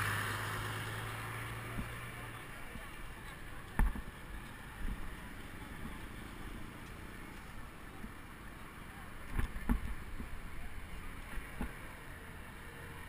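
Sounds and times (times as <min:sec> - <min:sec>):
bicycle rolling noise: 0:00.0 - 0:13.0
wind: 0:00.0 - 0:13.0.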